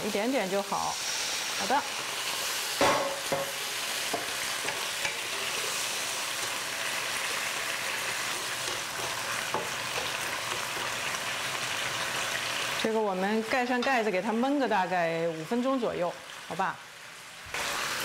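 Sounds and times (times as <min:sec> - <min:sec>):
chicken wings sizzling in a wok: 0:00.0 - 0:18.0.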